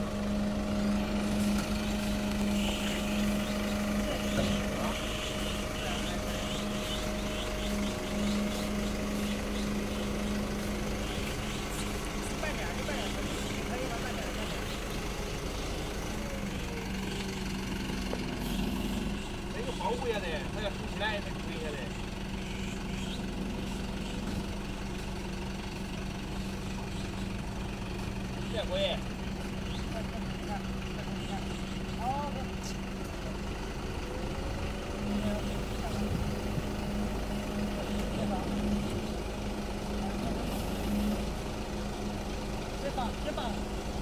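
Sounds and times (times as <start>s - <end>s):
diesel engine idling: 0.0s - 44.0s.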